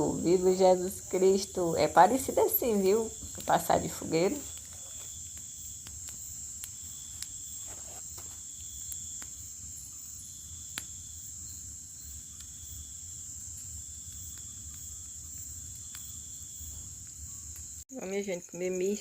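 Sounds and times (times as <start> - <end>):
crickets chirring: 0.0 - 19.0
low insect trill: 0.0 - 19.0.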